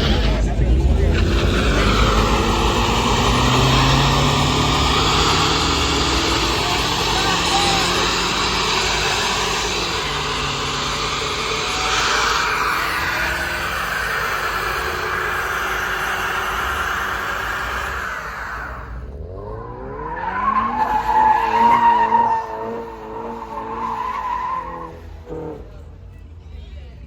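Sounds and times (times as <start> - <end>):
car engine revving high: 0.0 - 25.8
car tyres squealing: 0.0 - 25.8.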